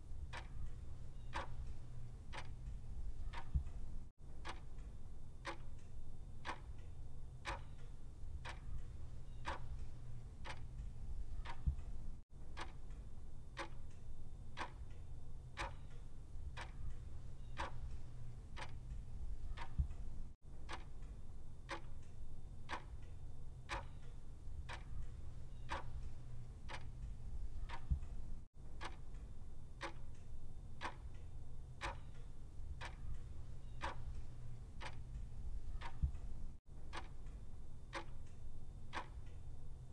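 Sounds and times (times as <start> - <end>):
low steady hum: 0.0 - 39.9
clock ticking: 0.3 - 13.0, 13.6 - 14.0, 14.6 - 15.0, 15.6 - 22.1, 22.7 - 23.1, 23.7 - 31.2, 31.8 - 39.4.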